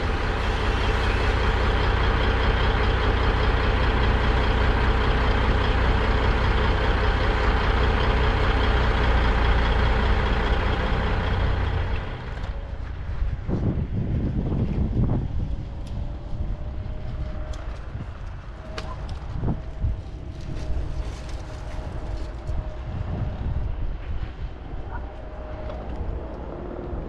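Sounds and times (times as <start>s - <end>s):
diesel engine humming: 0.0s - 27.0s.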